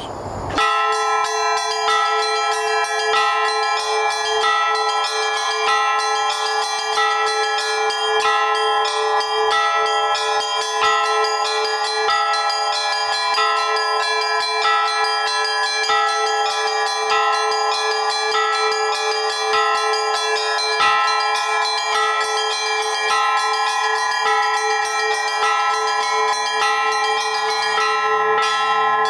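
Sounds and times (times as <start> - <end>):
church bells ringing: 0.0 - 29.0.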